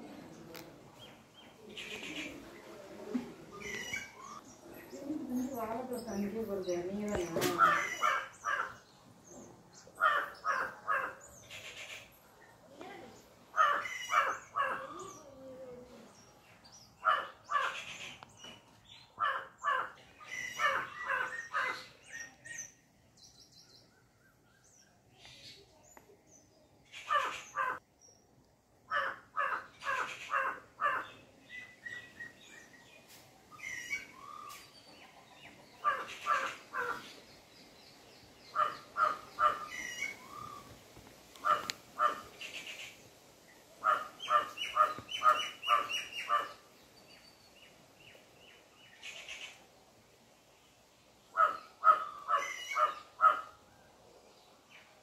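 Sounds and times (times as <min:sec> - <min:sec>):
birds calling quickly: 0:03.5 - 0:15.3, 0:16.1 - 0:26.0, 0:26.8 - 0:27.8, 0:28.9 - 0:49.7, 0:51.3 - 0:53.6.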